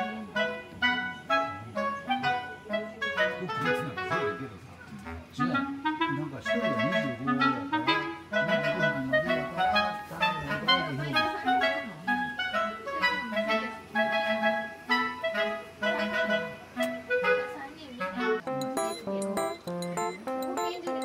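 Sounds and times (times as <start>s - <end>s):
bouncy clarinet tune: 0.0s - 21.0s.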